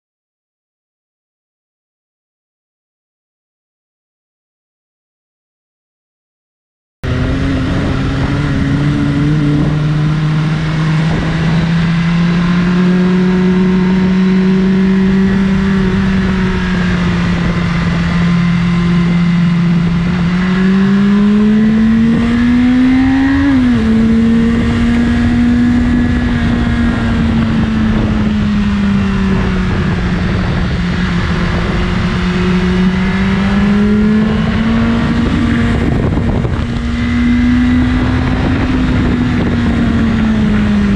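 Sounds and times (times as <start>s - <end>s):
motorcycle engine revving: 7.0s - 40.9s.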